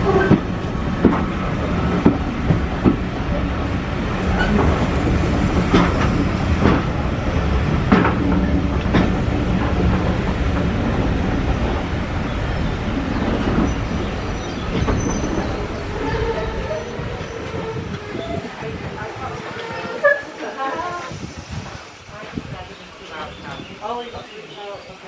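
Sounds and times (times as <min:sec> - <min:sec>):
wheels clacking over rail joints: 0:00.0 - 0:20.4
train wheels rumbling on track: 0:00.0 - 0:25.0.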